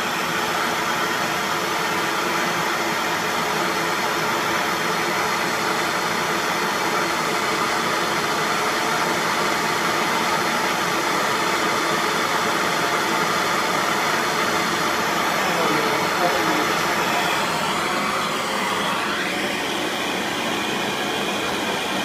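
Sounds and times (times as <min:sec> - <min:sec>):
heat gun blowing: 0:00.0 - 0:22.0.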